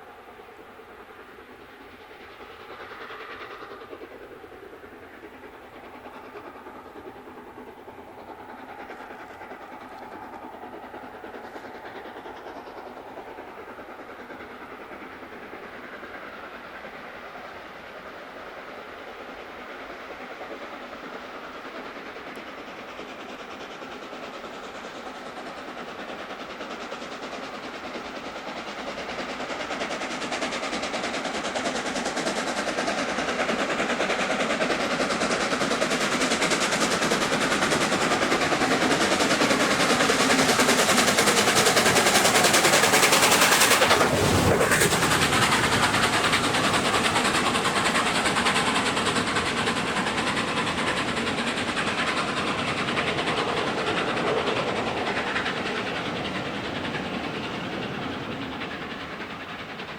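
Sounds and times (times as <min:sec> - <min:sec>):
steam locomotive exhaust beats: 0:00.0 - 0:59.9.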